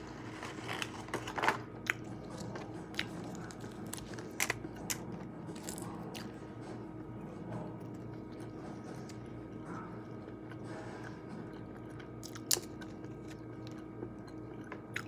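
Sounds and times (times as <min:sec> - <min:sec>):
crunching while eating: 0:00.0 - 0:15.0
faint steady hum: 0:00.0 - 0:15.0.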